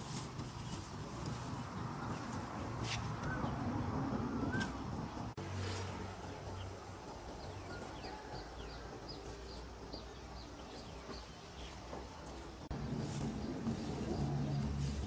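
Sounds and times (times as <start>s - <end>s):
faint rural background: 0.0s - 15.0s.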